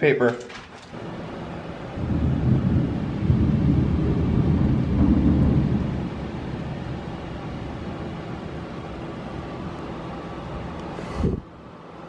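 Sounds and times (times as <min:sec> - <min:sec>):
storm hiss: 0:01.0 - 0:11.5
thunder rumble: 0:01.0 - 0:11.5.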